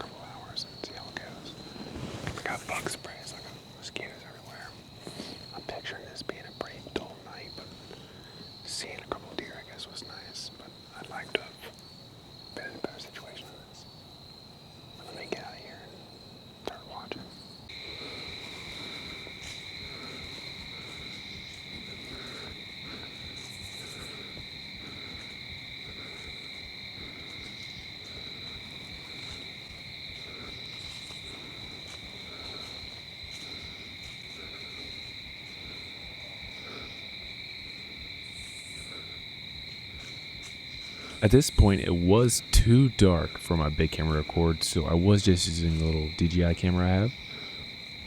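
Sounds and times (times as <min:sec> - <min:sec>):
crickets trilling: 0:00.0 - 0:48.0.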